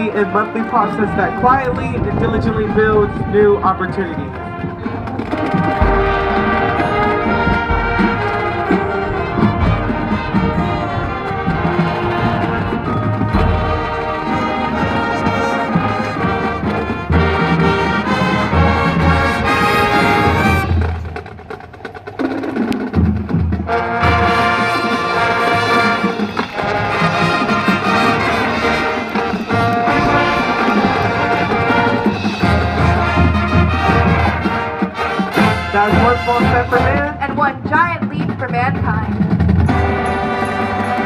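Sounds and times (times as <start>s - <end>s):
marching band playing: 0.0s - 41.0s.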